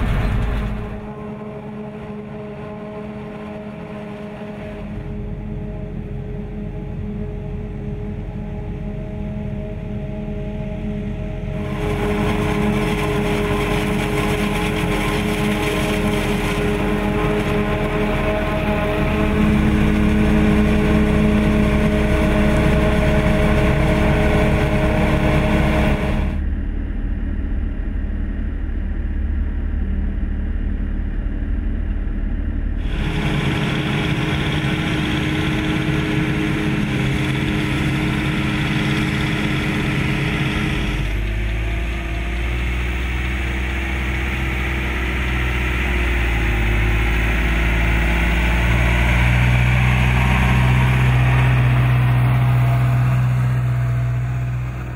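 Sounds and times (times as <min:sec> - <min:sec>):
tractor diesel engine running: 0:00.0 - 0:26.5, 0:32.8 - 0:54.9.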